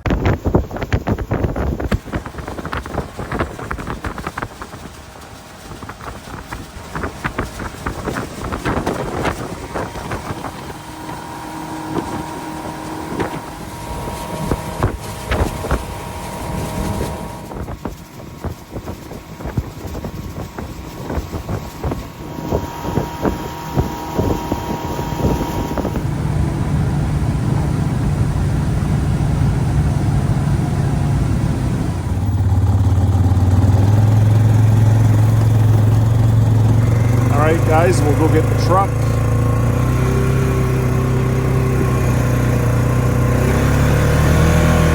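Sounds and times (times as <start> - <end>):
boat motor humming: 0.0 - 44.9
wind noise: 0.0 - 44.9.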